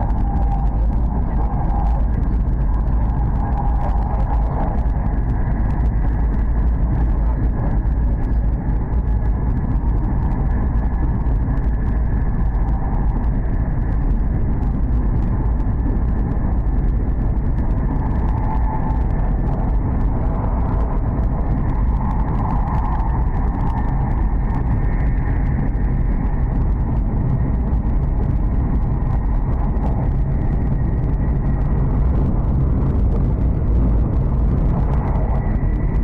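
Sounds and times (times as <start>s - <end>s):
faint high hum: 0.0s - 36.0s
train cabin low rumble: 0.0s - 36.0s.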